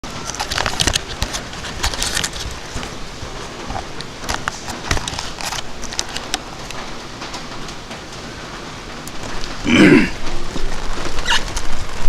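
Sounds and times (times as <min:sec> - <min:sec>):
rain drops hitting a canopy: 0:00.0 - 0:12.0
rushing wind and rain: 0:00.0 - 0:12.0.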